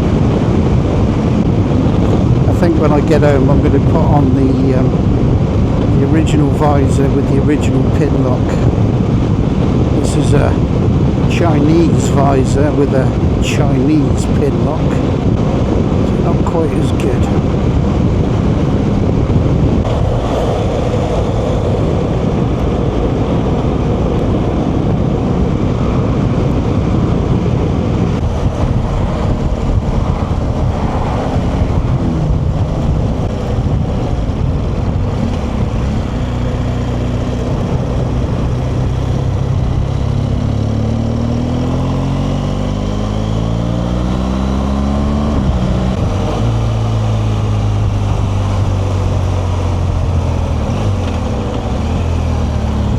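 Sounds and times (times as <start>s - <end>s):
motorcycle engine running: 0.0s - 52.9s
wind noise: 0.0s - 52.9s.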